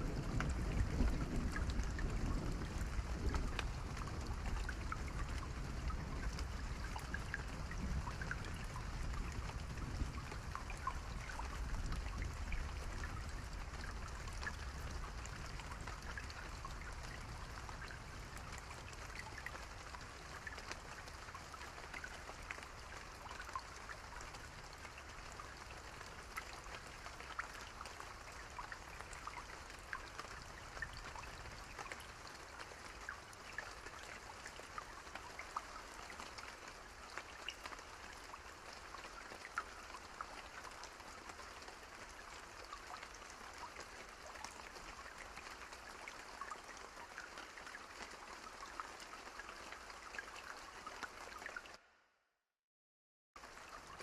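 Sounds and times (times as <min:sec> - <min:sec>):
steady rain pattering: 0:00.0 - 0:51.9, 0:53.4 - 0:54.0.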